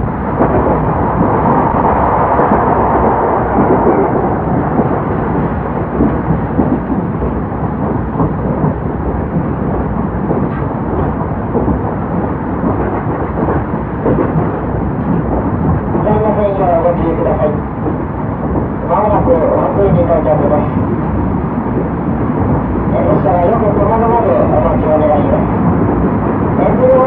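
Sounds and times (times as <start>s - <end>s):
train wheels rumbling and clattering: 0.0s - 27.0s.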